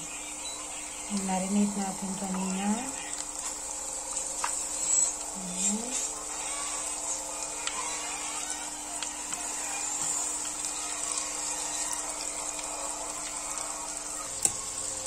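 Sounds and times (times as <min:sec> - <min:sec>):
chicken deep-frying in hot oil: 0:00.0 - 0:15.0.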